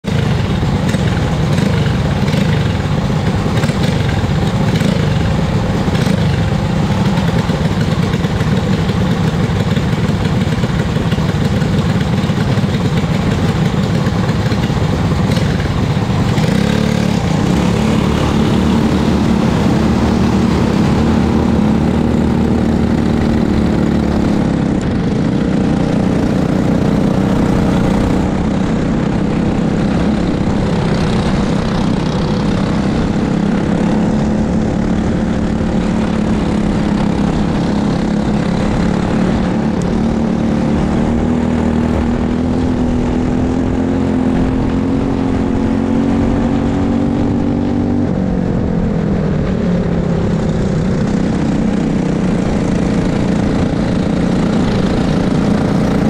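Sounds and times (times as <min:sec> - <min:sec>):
kart engine idling: 0:00.0 - 0:44.0, 0:48.0 - 0:56.0.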